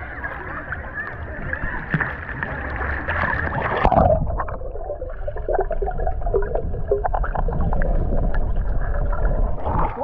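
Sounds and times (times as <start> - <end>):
underwater gurgling and bubbles: 0.0 - 10.0
water splash: 1.7 - 10.0.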